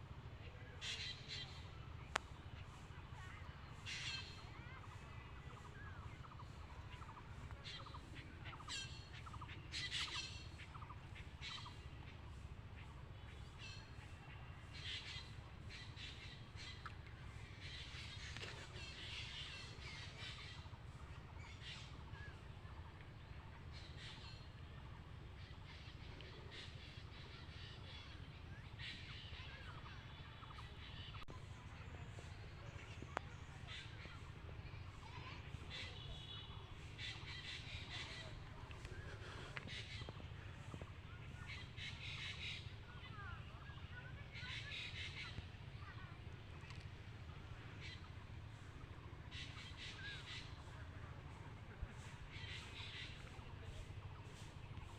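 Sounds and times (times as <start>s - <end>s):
low steady rumble: 0.0s - 54.9s
birds calling: 0.2s - 54.9s.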